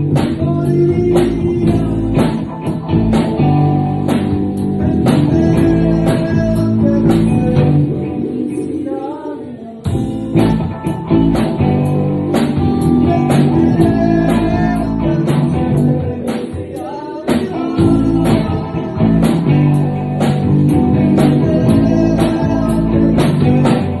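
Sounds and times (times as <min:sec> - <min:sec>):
man singing: 0:00.0 - 0:02.7, 0:04.7 - 0:10.8, 0:12.6 - 0:24.0
electric bass: 0:00.0 - 0:09.1, 0:09.8 - 0:24.0
drum kit: 0:00.0 - 0:09.2, 0:09.8 - 0:24.0
distorted electric guitar: 0:00.0 - 0:24.0.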